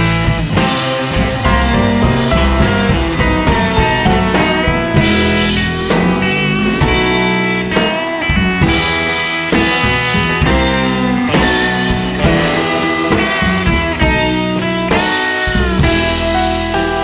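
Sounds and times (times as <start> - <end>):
rock music with guitar and drums: 0.0 - 17.0.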